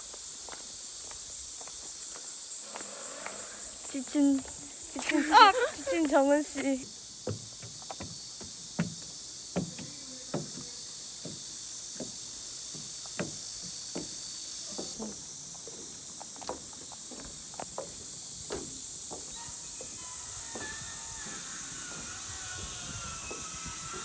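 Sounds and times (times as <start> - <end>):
footsteps on a path: 0.0 - 24.0
high-pitched insect chorus: 0.0 - 24.0.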